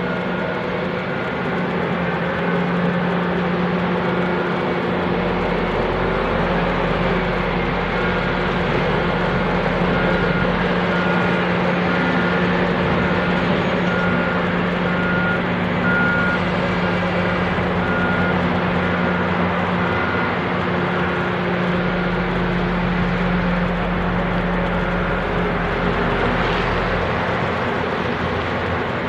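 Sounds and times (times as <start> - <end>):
truck reversing alarm beeping: 0.0 - 28.2
heavy machinery diesel drone: 0.0 - 29.0.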